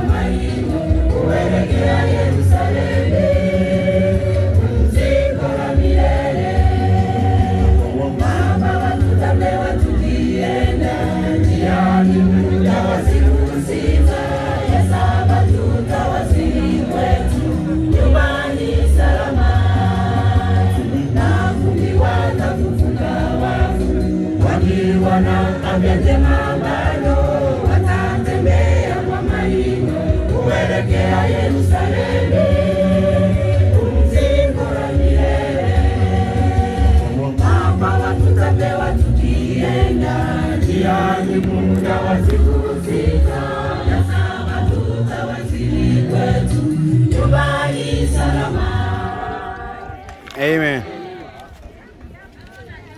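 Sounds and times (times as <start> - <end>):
choir singing gospel: 0.0 - 51.7.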